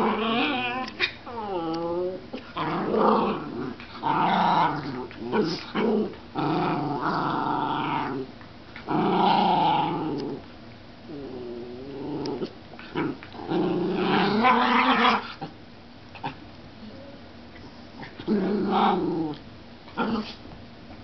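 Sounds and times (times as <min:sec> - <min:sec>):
dogs growling: 0:00.0 - 0:10.5, 0:11.1 - 0:16.4, 0:17.9 - 0:20.4.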